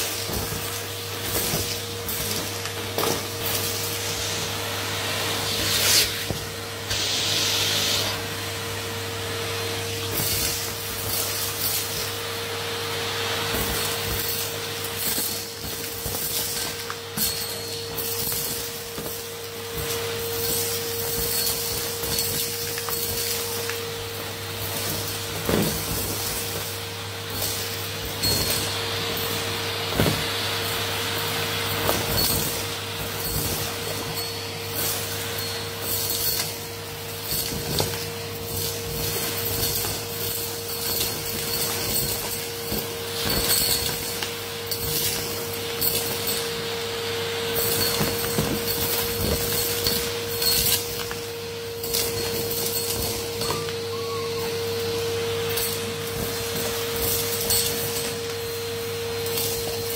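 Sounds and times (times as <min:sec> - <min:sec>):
vacuum cleaner whining: 0:00.0 - 0:59.9.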